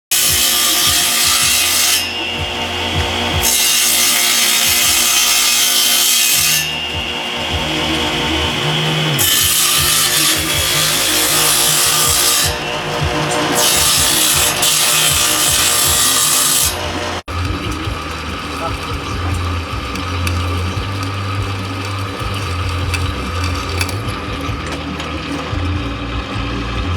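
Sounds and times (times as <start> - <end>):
abrasive tool scraping: 0.1 - 26.2
blowtorch hissing: 0.3 - 26.2.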